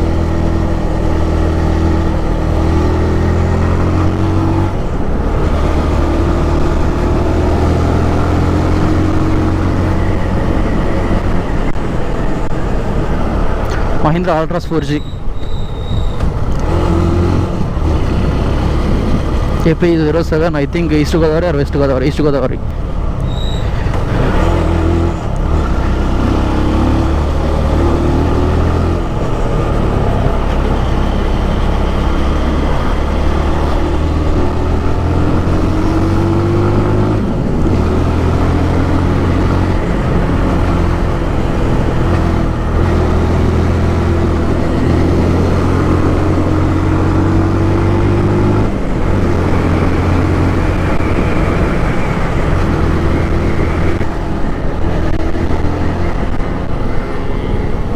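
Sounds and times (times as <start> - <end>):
motorcycle engine accelerating: 0.0 - 14.0, 16.2 - 21.6, 22.7 - 57.9
wind and road noise: 0.0 - 57.9.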